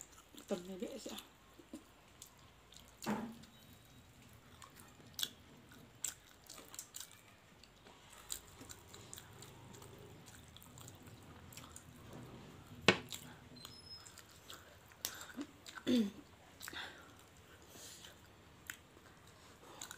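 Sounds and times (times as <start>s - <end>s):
people chewing with wet clicks: 0.0s - 19.9s.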